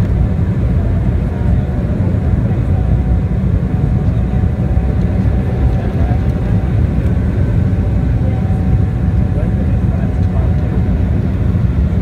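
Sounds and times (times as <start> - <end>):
jet cabin rumble: 0.0 - 12.0.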